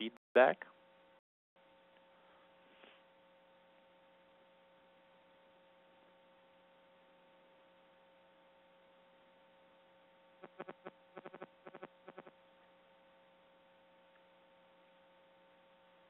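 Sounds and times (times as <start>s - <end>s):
faint steady hum: 0.4s - 16.0s.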